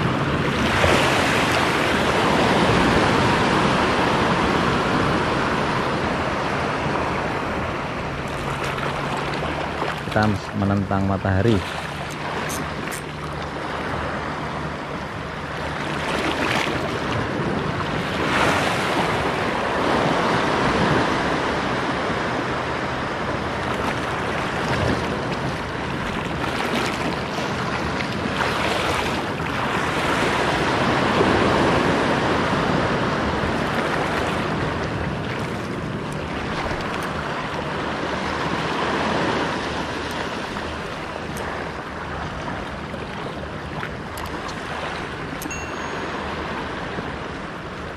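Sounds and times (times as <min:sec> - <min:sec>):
sea waves on rocky shore: 0:00.0 - 0:47.9.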